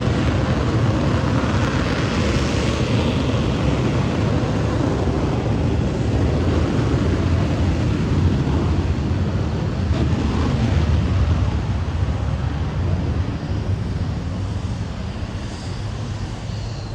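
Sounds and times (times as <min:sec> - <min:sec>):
jet engine roar: 0:00.0 - 0:16.9.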